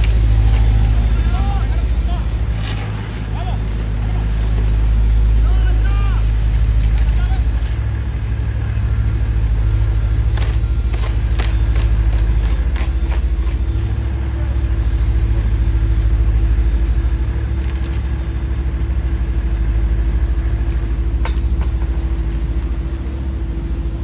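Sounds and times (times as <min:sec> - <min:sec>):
faint constant hum: 0:00.0 - 0:24.0
paving machinery rumbling: 0:00.0 - 0:24.0.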